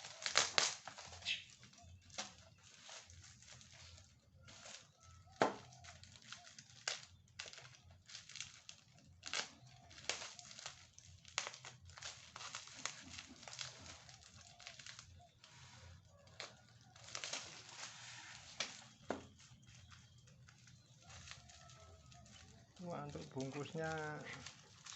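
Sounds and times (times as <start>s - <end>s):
packaging crinkling and rustling: 0.0s - 24.9s
packaging tearing: 0.0s - 24.9s.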